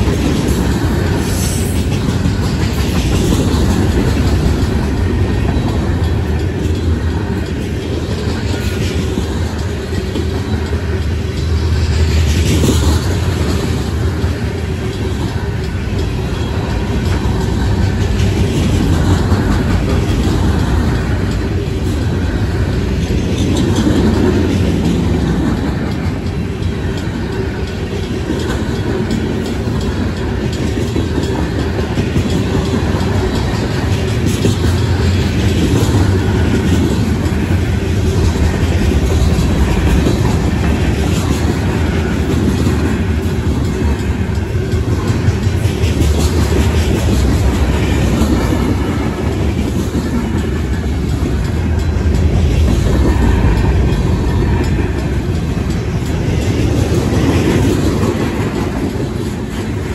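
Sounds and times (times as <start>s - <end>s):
steel wheels on rails: 0.0s - 59.9s.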